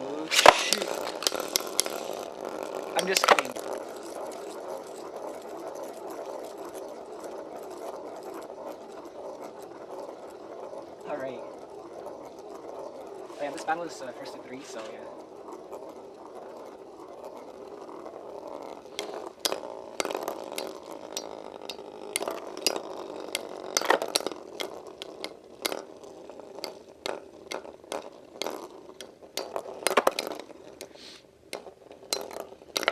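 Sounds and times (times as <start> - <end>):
spinning tops whirring: 0.0 - 32.9.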